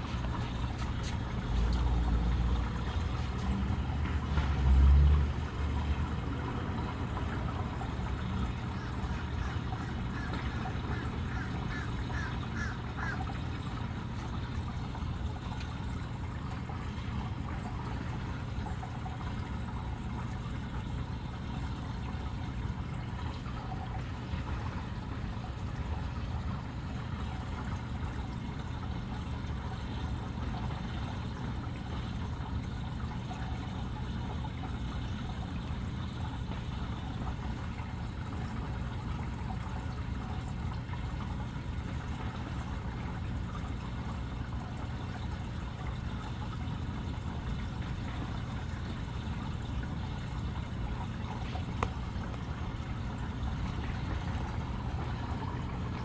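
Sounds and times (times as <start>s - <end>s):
steady low hum: 0.0s - 56.0s
water swirling and trickling: 0.0s - 56.0s.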